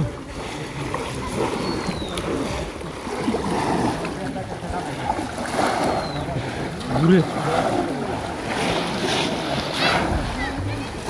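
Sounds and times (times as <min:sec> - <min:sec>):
voices calling: 0:00.0 - 0:11.0
water sloshing and splashing: 0:00.0 - 0:11.0.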